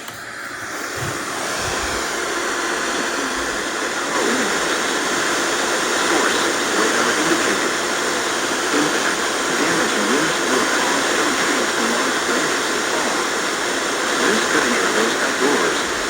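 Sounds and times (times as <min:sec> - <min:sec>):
radio static hiss: 0:00.0 - 0:16.0
faint voice over radio: 0:00.9 - 0:16.0.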